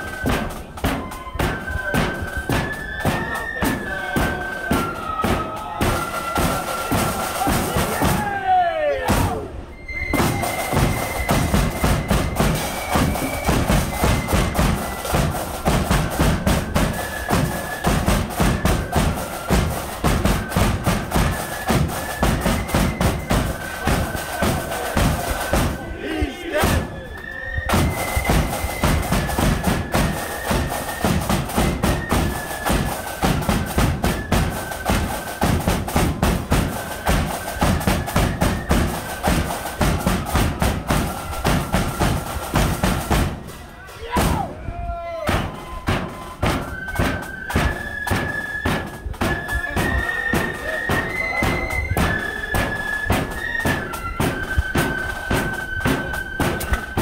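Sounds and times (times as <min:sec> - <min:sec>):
other drums: 0:00.0 - 0:27.0, 0:27.7 - 0:57.0
flute melody: 0:00.0 - 0:57.0.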